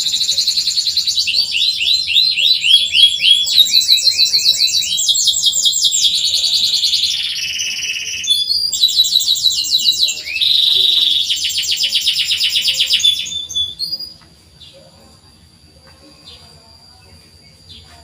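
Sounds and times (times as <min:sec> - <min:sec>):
canary singing trills: 0:00.0 - 0:15.4
faint bird chirps: 0:00.0 - 0:18.0.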